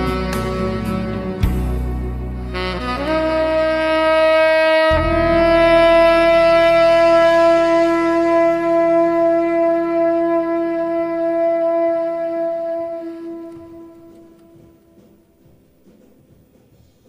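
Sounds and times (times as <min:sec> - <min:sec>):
saxophone long note: 0:00.0 - 0:15.5.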